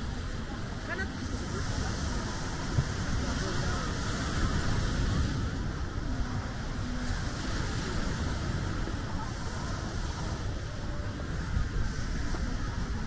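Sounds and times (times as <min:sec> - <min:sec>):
sea surf washing: 0:00.0 - 0:13.0
wind on microphone: 0:00.0 - 0:13.0.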